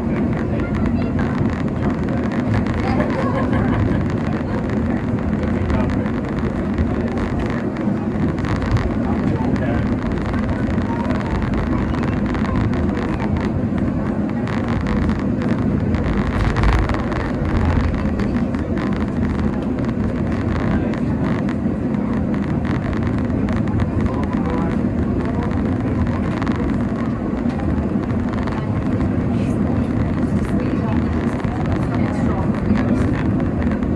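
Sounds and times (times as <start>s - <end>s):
funicular car rumbling: 0.0s - 33.9s.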